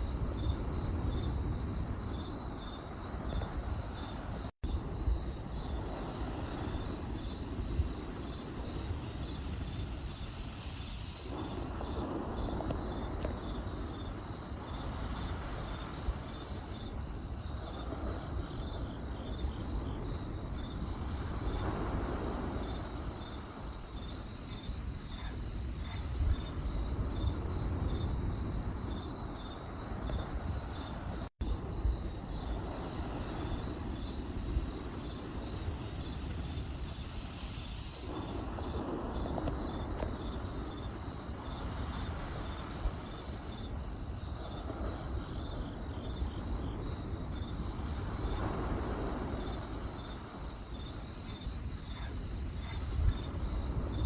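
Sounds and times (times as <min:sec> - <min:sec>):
campfire crackling: 0:00.0 - 0:52.5
crickets chirping: 0:00.0 - 0:54.0.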